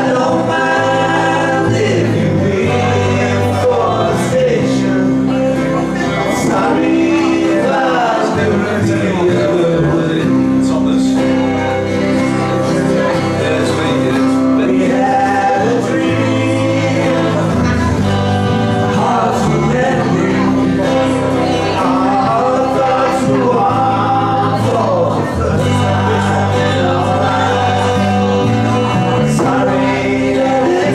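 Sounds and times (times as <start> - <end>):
men singing together: 0.0 - 30.9
small band playing: 0.0 - 30.9.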